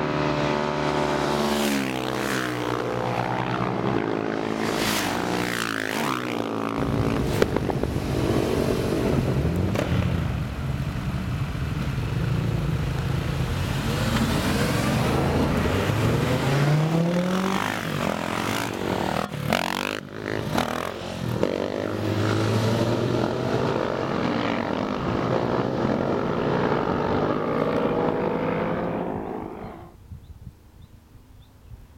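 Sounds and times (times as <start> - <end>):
motorcycles passing at speed: 0.0 - 29.9.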